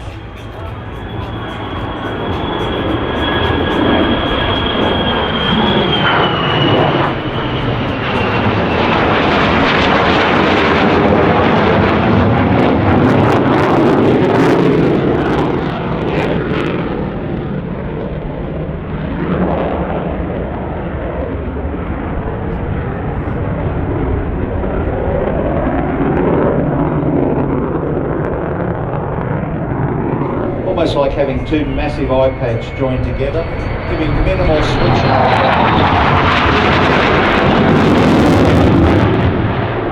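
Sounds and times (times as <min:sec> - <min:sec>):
jet engine low pass: 0:00.0 - 0:39.9.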